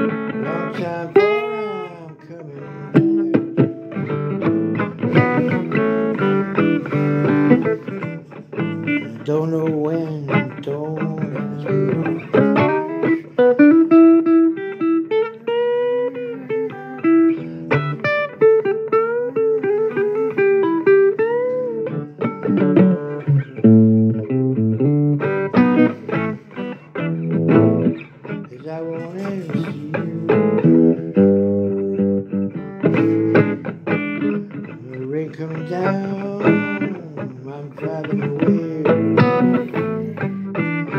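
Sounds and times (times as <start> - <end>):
blues guitar plucked notes: 0.0 - 40.9.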